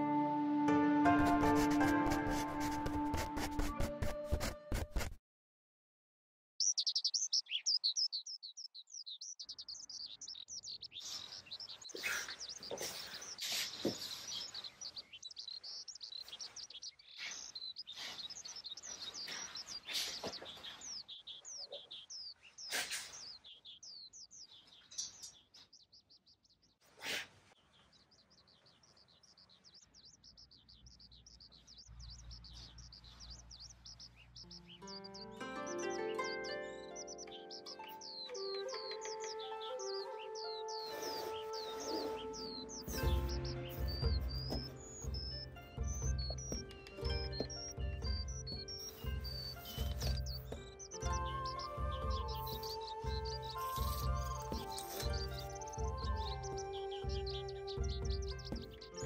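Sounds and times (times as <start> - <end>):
small birds chirping: 6.6 - 59.0.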